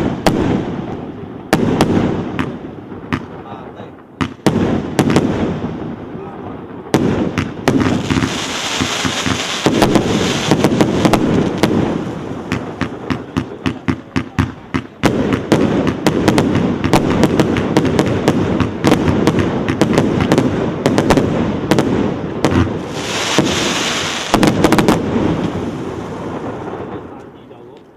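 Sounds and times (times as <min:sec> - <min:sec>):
fireworks bangs and pops: 0:00.0 - 0:27.9
fireworks crackle and hiss: 0:00.0 - 0:27.9.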